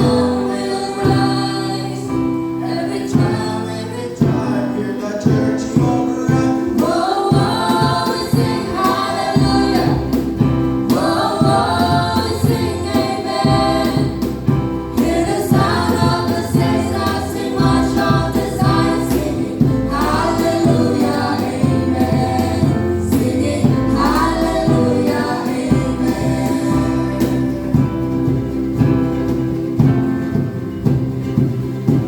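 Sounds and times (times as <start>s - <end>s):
choir singing gospel song: 0.0s - 29.9s
instrumental accompaniment with bass: 0.0s - 32.0s.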